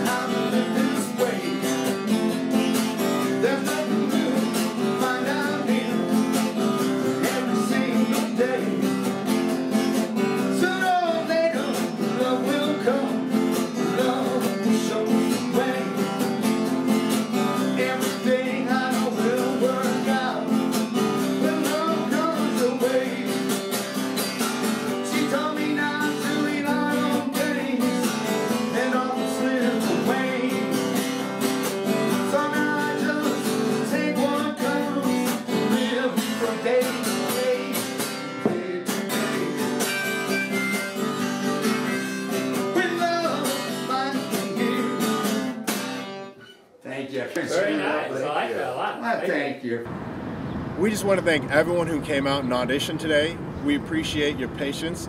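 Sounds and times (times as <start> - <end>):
strummed acoustic guitar: 0.0 - 46.8.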